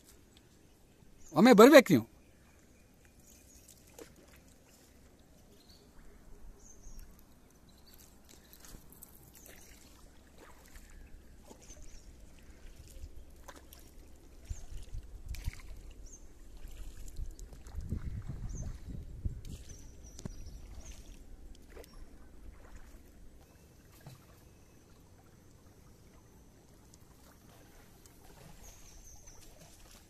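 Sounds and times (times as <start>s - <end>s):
water splashing and trickling: 0.0s - 30.0s.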